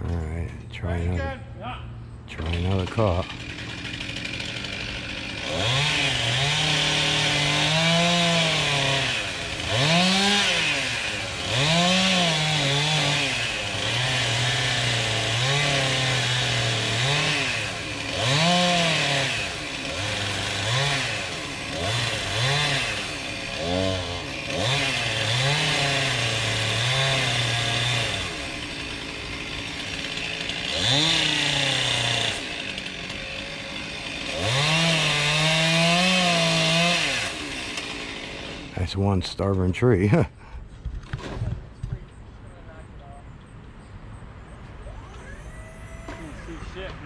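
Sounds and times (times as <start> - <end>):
chainsaw revving cutting wood: 2.4 - 40.2, 44.9 - 47.0.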